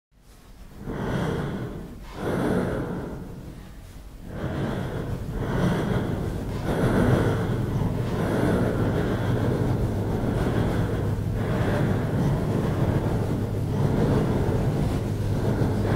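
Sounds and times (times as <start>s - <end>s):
heavy breaths: 0.2s - 15.9s
low rumbling drone: 0.6s - 15.9s.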